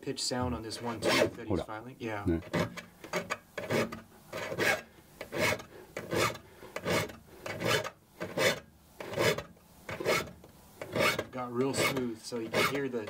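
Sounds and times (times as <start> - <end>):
file rasping on saw teeth: 0.8 - 1.4, 2.4 - 13.0.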